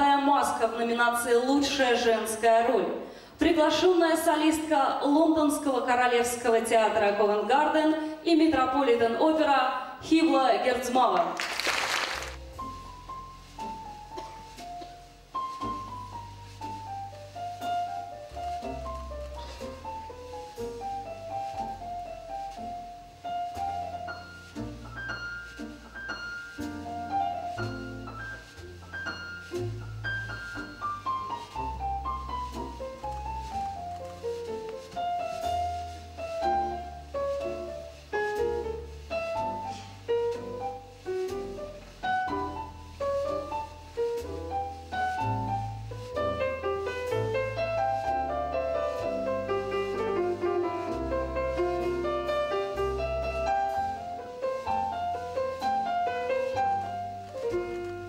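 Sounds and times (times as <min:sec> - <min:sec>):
jazz grand piano: 0:00.0 - 0:58.0.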